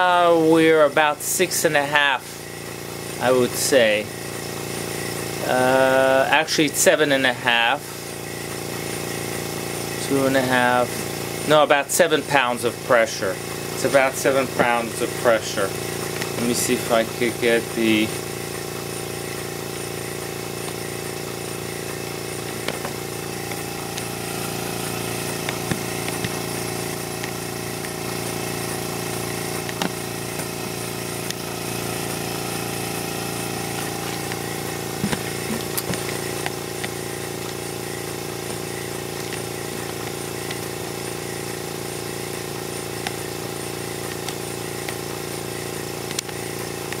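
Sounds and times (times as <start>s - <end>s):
air compressor humming: 0.0s - 47.0s.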